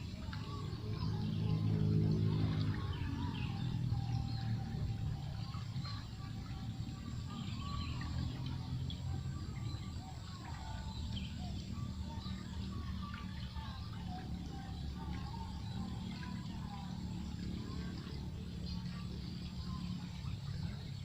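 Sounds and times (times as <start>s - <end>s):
birds chirping and warbling: 0.0s - 21.0s
steady low rumble: 0.0s - 21.0s.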